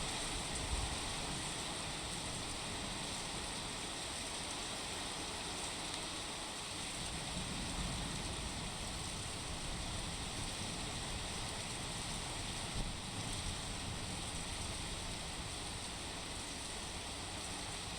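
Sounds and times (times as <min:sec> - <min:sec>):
steady rain falling: 0:00.0 - 0:17.9.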